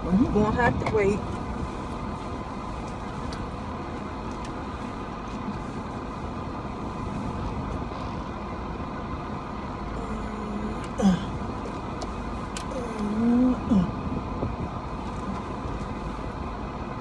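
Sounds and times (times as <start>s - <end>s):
car engine rumble inside cabin: 0.0s - 17.0s.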